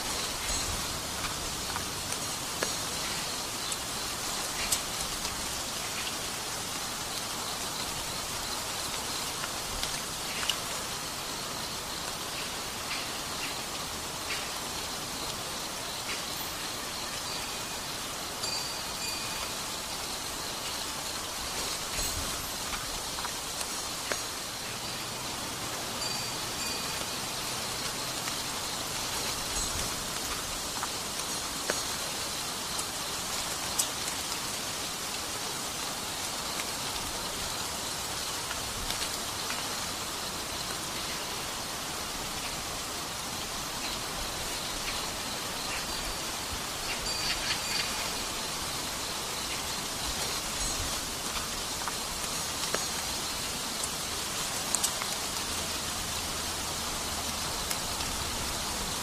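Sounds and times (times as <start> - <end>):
outdoor ambient hiss: 0.0 - 59.0.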